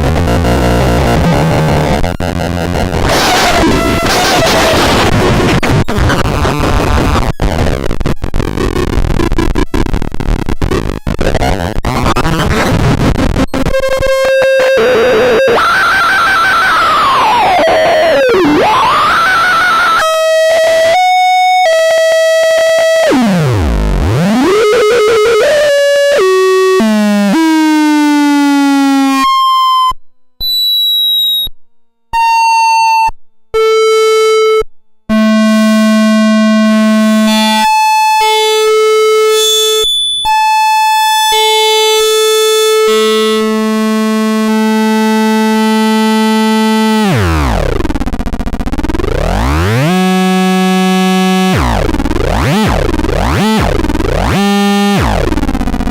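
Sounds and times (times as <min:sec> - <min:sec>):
buzzy electronic tones: 0:00.0 - 0:31.5, 0:32.2 - 0:55.9.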